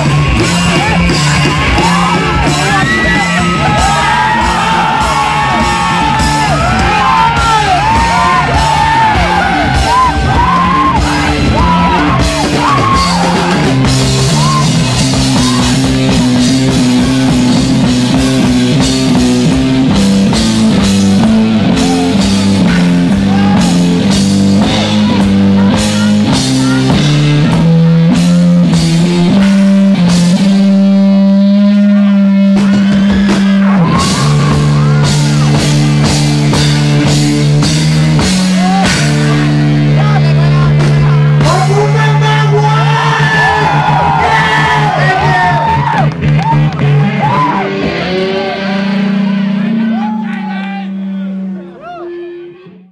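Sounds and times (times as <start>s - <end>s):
drums: 0.0s - 51.0s
bass: 0.0s - 52.9s
guitar: 0.0s - 52.9s.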